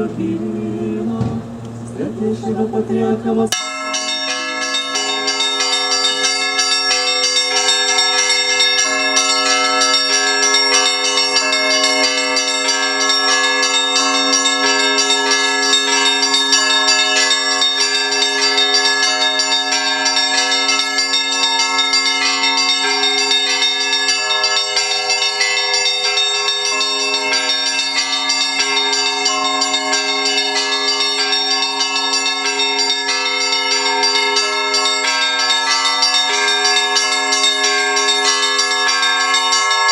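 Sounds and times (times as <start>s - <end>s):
church bells pealing: 3.5s - 39.9s.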